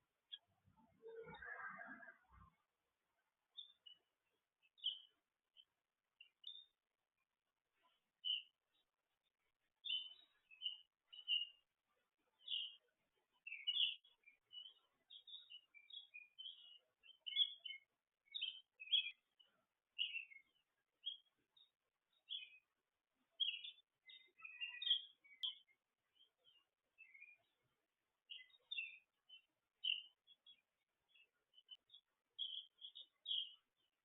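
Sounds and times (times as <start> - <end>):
small songbirds chirping: 0.0 - 34.0.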